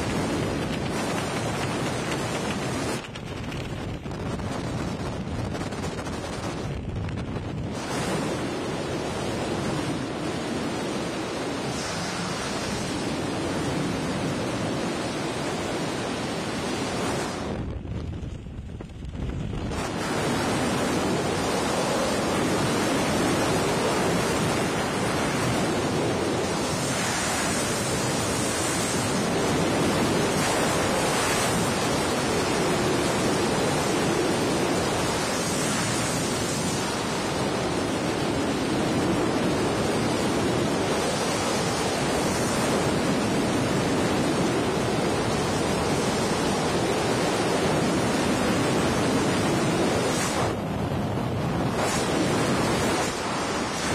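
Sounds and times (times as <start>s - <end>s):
strong wind on microphone: 0.0s - 53.9s.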